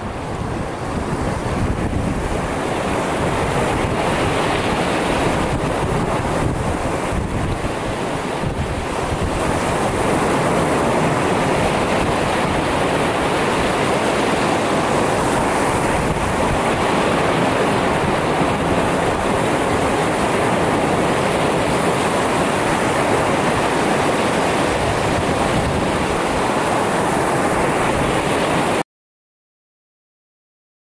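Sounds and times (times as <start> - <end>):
waves breaking on shore: 0.0 - 28.8.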